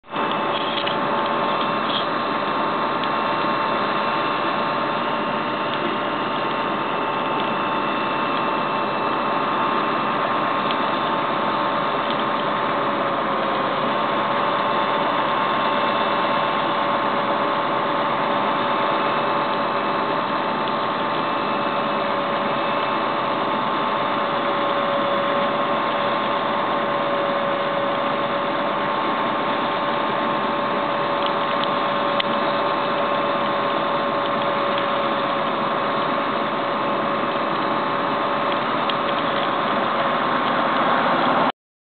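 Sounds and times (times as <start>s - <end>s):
mechanical whine: 0.0s - 41.5s
tow truck engine running: 0.0s - 41.5s.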